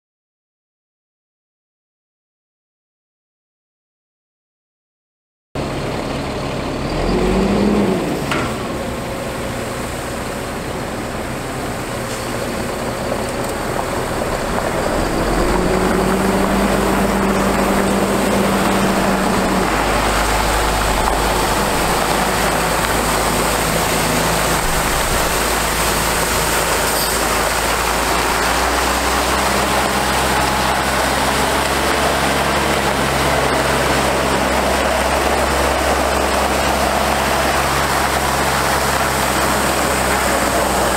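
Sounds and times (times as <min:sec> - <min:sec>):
diesel truck engine running: 0:05.6 - 0:40.9
water spraying hiss: 0:08.1 - 0:40.9.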